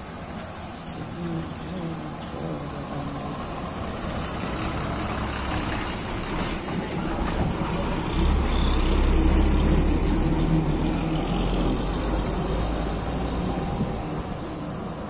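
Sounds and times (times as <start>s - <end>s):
bus diesel engine passing: 0.0s - 15.0s.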